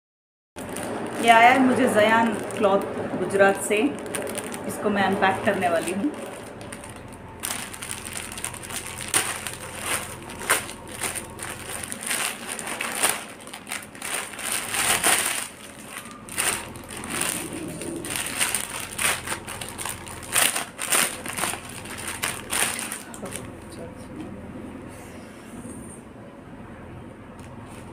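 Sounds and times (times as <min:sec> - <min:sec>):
plastic wrapping crinkling: 0:00.6 - 0:23.7.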